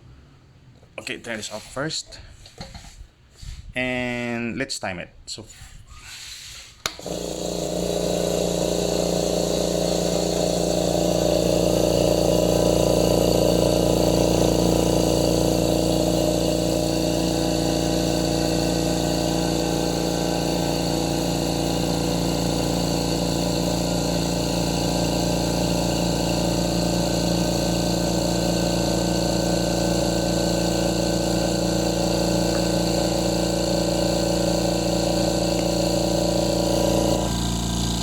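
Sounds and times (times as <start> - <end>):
air compressor running: 6.8 - 38.0.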